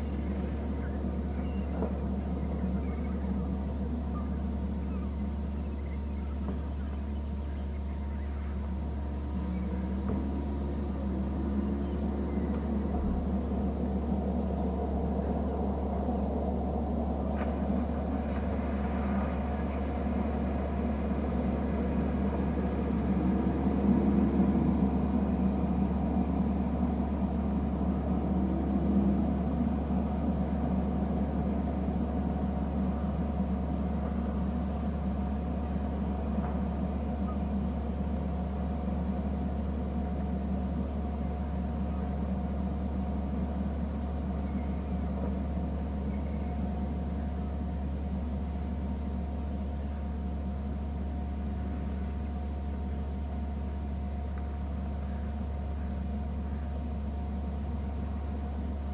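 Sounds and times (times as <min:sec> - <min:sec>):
low hum and rumble: 0:00.0 - 0:58.9.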